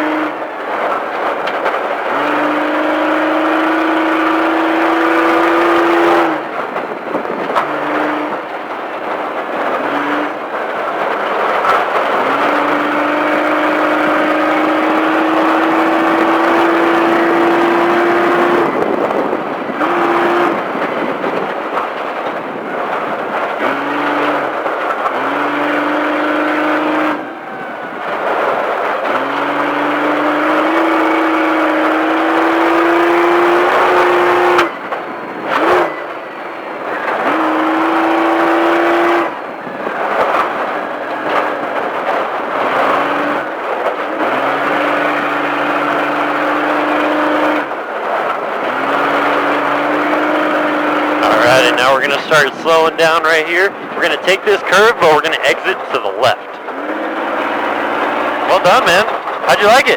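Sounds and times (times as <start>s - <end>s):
truck engine revving hard: 0.0s - 59.9s
wind and tyre noise: 0.0s - 59.9s.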